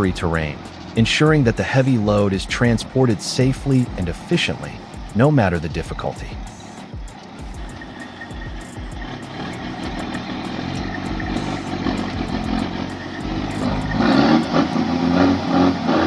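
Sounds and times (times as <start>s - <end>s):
heavy truck engine under load: 0.0s - 6.4s, 7.1s - 16.0s.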